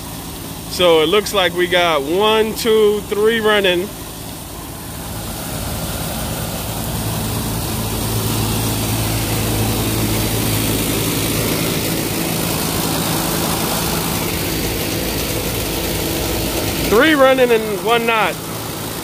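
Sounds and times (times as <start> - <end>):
condenser fans blowing: 0.0 - 19.0
electric hum: 0.0 - 19.0.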